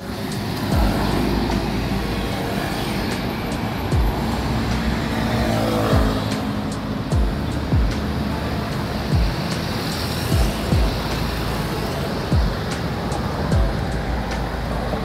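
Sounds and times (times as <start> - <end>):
cars and scooters passing: 0.0 - 15.0
electronic music with deep bass: 0.0 - 15.0
road noise: 0.0 - 15.0.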